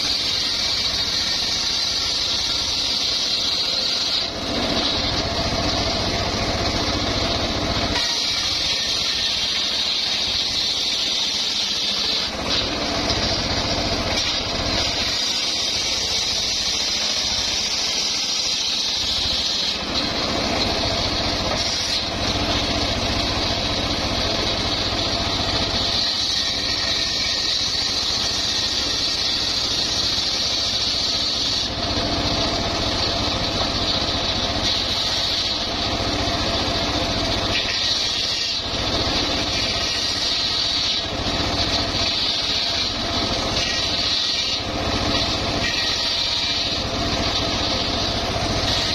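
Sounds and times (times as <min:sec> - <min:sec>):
circular saw ripping wood: 0:00.0 - 0:48.9.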